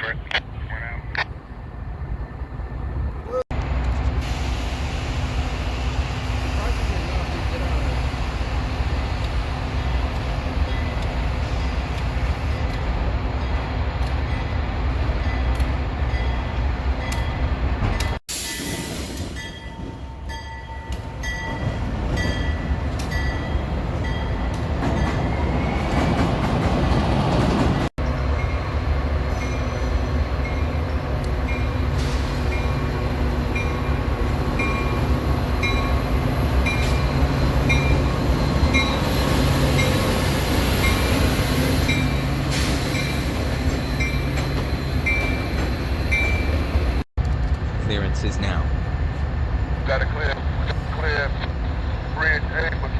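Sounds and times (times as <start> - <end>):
train rumbling past: 1.3 - 52.9.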